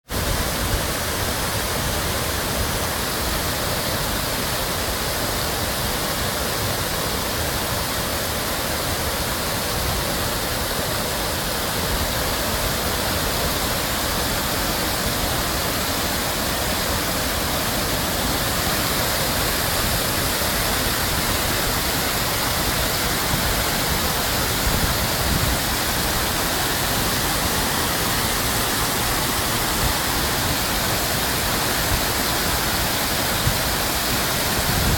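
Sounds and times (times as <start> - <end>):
water rushing down cascade: 0.0 - 34.9.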